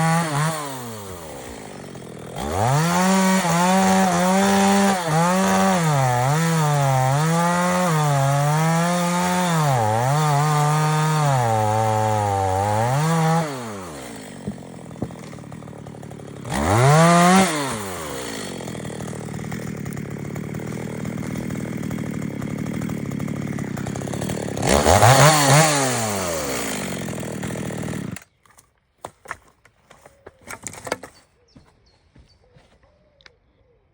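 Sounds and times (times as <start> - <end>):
chainsaw cutting wood: 0.0 - 28.4, 29.2 - 31.2.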